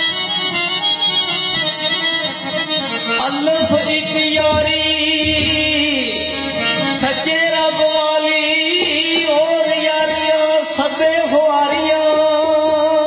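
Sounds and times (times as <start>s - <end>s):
harmonium chords: 0.0s - 13.0s
man singing into a microphone: 0.1s - 13.0s.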